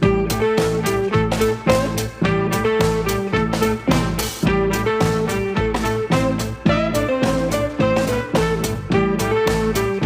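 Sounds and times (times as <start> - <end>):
plucked guitar tune with beat: 0.0 - 10.0.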